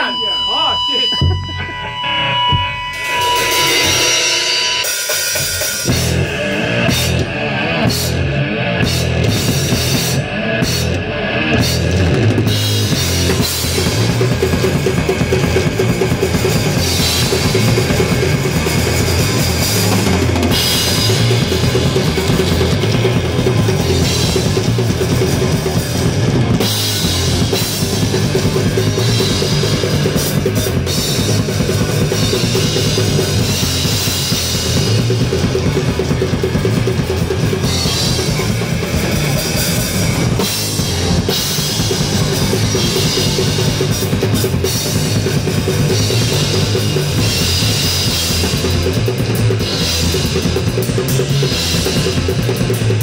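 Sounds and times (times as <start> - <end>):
drum kit with cymbals: 0.0 - 53.0
metal band playing live: 0.0 - 53.0.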